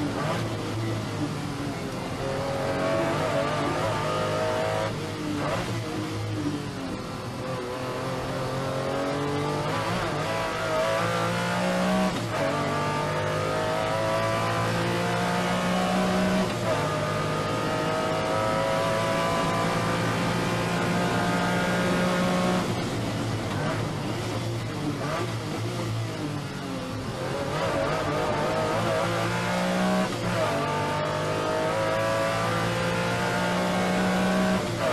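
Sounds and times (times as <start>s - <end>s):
car engine accelerating hard: 0.0s - 34.9s.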